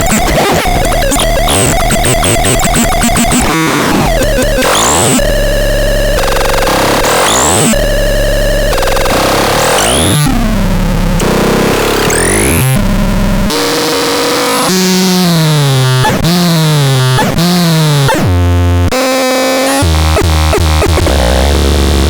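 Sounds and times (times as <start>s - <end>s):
synthesizer harsh noisy tones: 0.0s - 16.4s, 18.9s - 22.0s.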